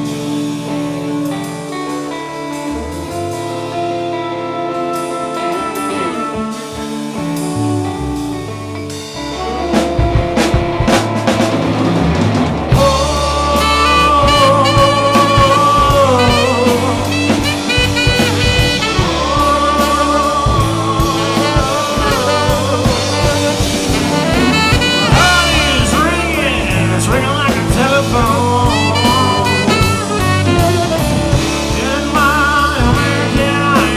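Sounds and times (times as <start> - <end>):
drum kit: 0.0 - 33.9
rock and roll band playing: 0.0 - 33.9
saxophone lead melody: 0.0 - 33.9.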